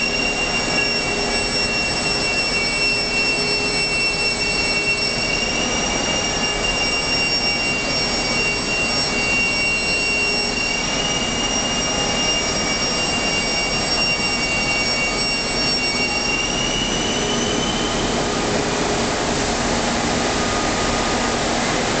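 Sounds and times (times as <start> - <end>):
high thin machine whine: 0.0 - 22.0
machinery running: 0.0 - 22.0.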